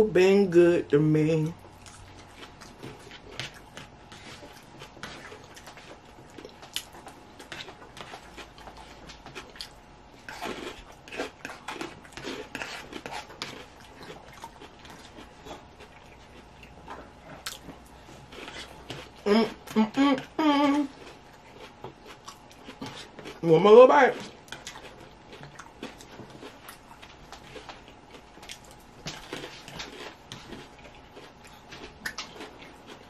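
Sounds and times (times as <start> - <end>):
chewing and mouth sounds: 1.4 - 33.0.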